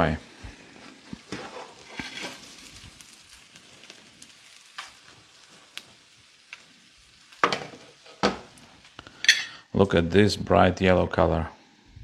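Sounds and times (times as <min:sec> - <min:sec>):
food sizzling in a pan: 0:00.0 - 0:09.8.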